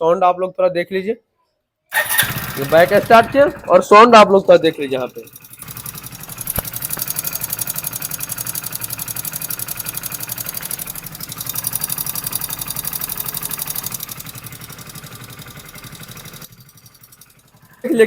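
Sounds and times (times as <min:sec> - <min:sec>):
fast engine ticking: 0:01.9 - 0:18.0
motorcycle engine idling: 0:01.9 - 0:18.0.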